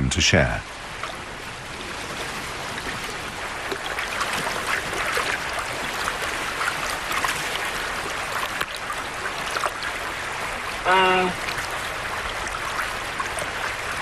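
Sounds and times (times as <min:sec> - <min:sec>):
river water running: 0:00.0 - 0:14.0
small water splashes: 0:00.7 - 0:14.0.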